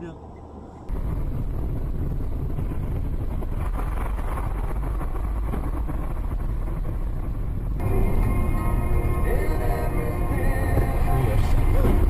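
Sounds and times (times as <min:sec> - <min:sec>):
vehicle rumbling: 0:00.0 - 0:12.0
wind on microphone: 0:00.9 - 0:12.0.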